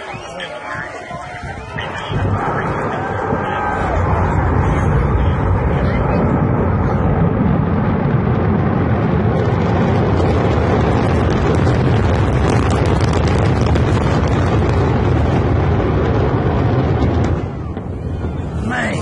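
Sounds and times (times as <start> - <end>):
rocket explosion rumble: 0.0 - 19.0.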